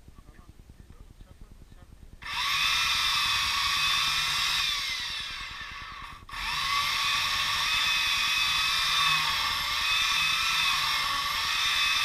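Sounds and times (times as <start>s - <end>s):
electric chainsaw cutting wood: 2.2s - 12.0s.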